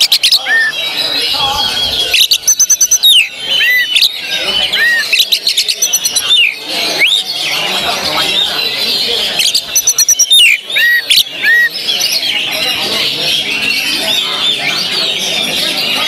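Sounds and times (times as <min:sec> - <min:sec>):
bird whistling song: 0:00.0 - 0:16.0.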